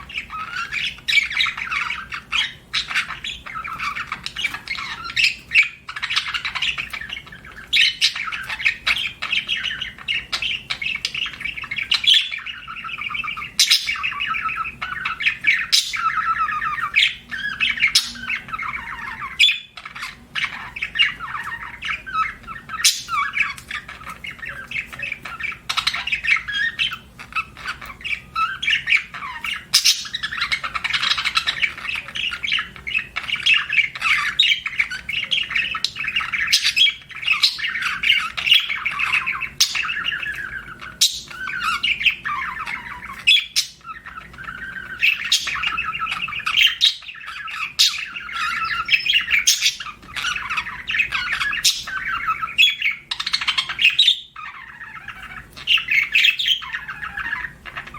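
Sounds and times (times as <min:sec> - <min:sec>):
budgerigars chattering: 0:00.0 - 0:57.9.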